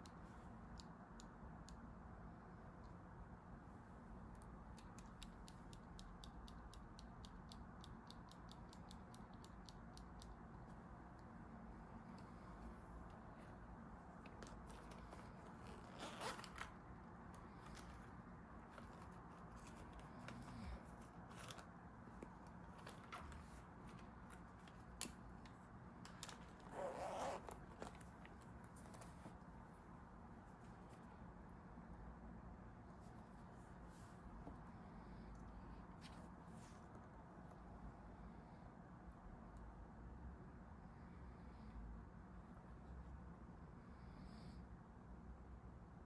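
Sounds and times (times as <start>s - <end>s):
low steady room hum: 0.0s - 46.0s.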